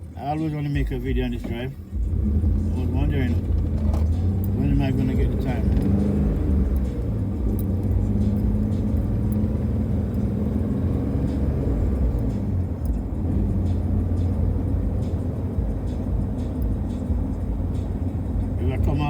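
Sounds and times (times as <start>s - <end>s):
car interior road and engine noise: 0.0s - 19.0s.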